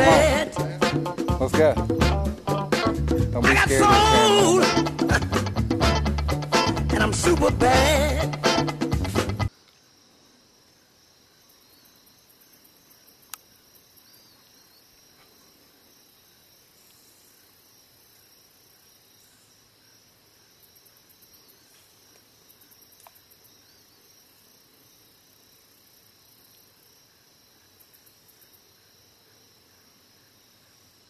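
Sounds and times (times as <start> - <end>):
insects trilling: 0.0 - 3.0, 3.9 - 5.6, 9.5 - 31.0.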